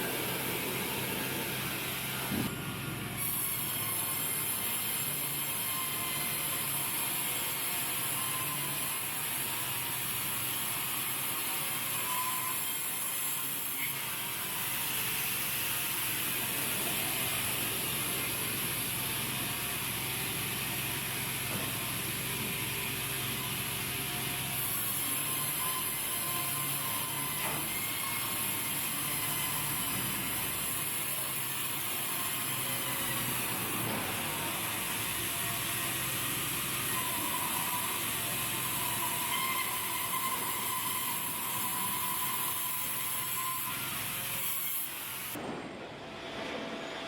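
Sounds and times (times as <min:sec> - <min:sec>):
sawmill machinery running: 0:00.0 - 0:45.4.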